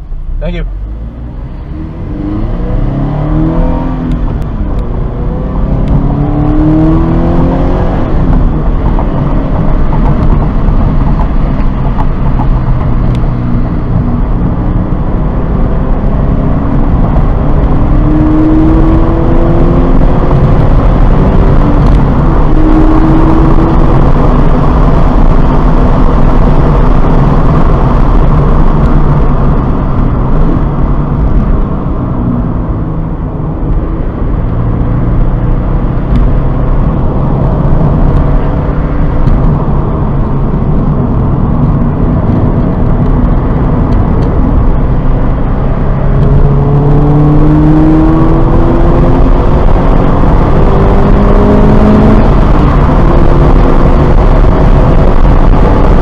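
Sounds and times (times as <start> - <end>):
car engine accelerating hard: 0.0 - 56.0
road and wind noise: 0.0 - 56.0.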